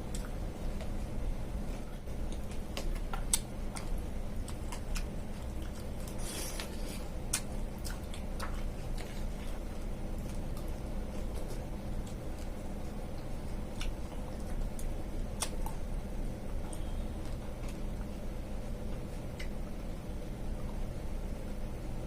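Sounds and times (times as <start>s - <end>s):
wet squishy chewing: 0.0s - 19.8s
steady low hum: 0.0s - 22.0s.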